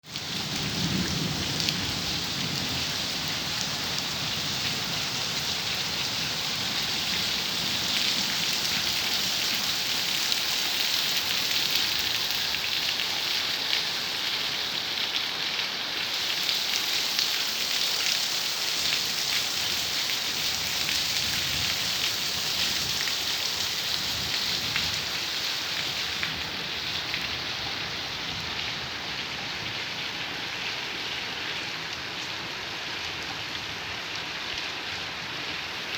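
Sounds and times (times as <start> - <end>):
steady rain pattering: 0.0 - 35.9.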